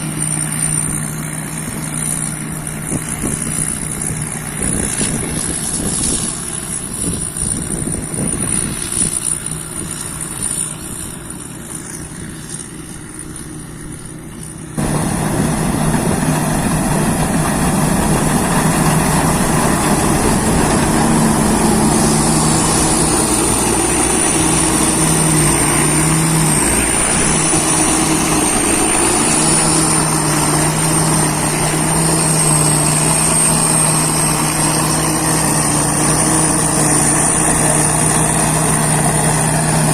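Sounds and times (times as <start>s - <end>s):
combine harvester engine running: 0.0s - 39.9s
high wavering whine: 0.0s - 39.9s.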